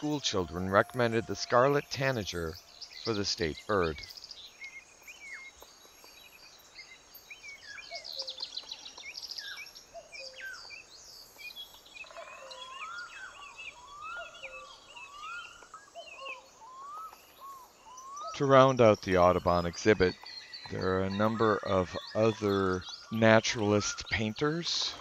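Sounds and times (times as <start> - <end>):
birds chirping and whistling: 0.0 - 25.0.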